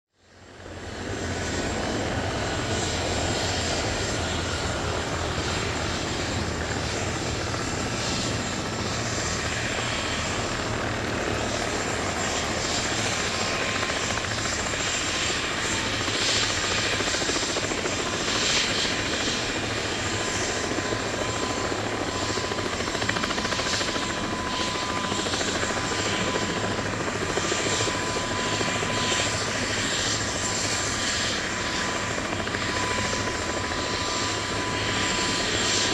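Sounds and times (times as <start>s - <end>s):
helicopter rotor beat: 0.2s - 35.9s
high turbine whine: 0.2s - 35.9s.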